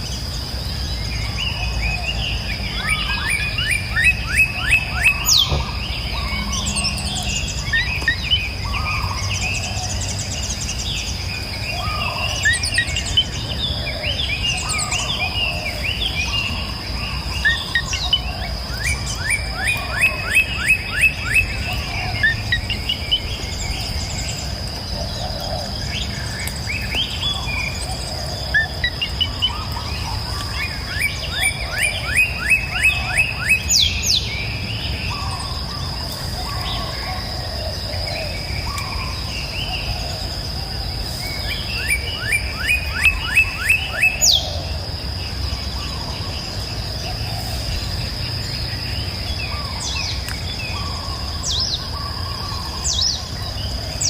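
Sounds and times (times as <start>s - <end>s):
bird chirps: 0.0s - 44.8s
insect drone: 0.0s - 54.0s.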